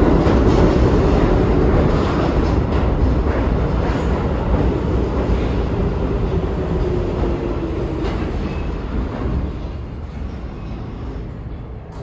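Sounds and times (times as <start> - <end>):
subway train wheels rumbling: 0.0 - 12.0
train low whine: 0.0 - 12.0.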